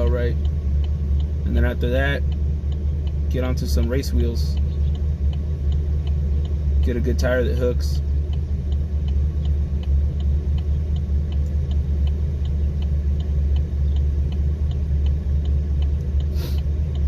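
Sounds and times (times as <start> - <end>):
car engine idling: 0.0 - 17.0
faint light ticking: 0.0 - 17.0.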